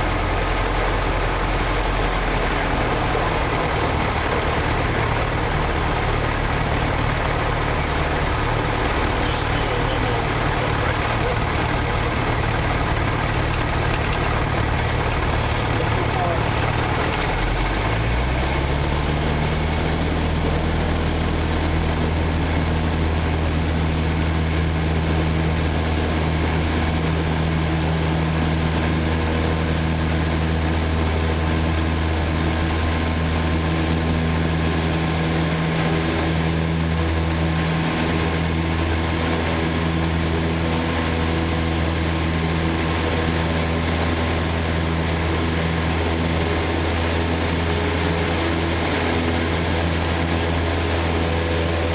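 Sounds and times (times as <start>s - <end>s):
airplane engine and propeller: 0.0s - 51.9s.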